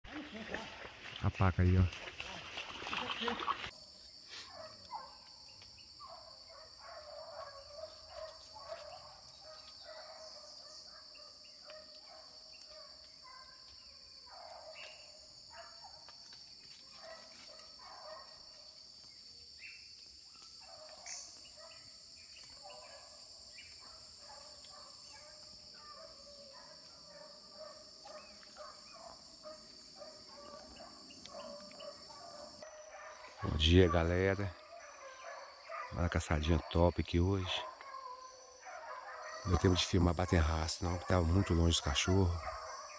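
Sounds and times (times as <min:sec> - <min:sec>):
insect chorus: 0:00.0 - 0:42.9.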